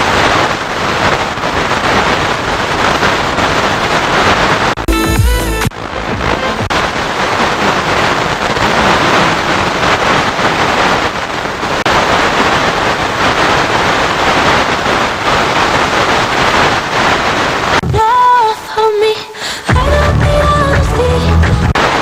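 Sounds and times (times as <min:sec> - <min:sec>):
radio static hiss: 0:00.0 - 0:18.0, 0:21.8 - 0:22.0.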